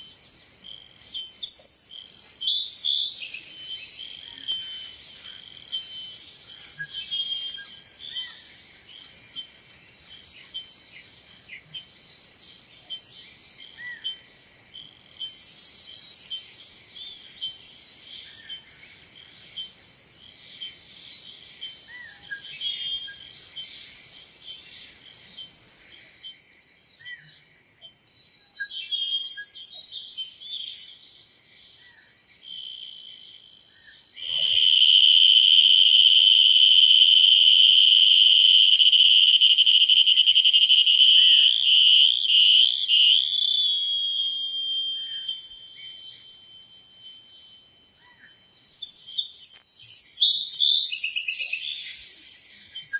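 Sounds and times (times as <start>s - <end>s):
cicada buzzing call: 0.0s - 52.9s.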